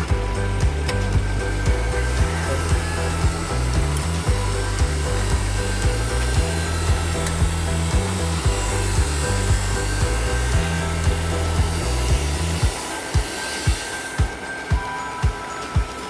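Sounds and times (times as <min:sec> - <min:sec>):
stepping bass line: 0:00.0 - 0:15.9
background music with beat: 0:00.0 - 0:16.0.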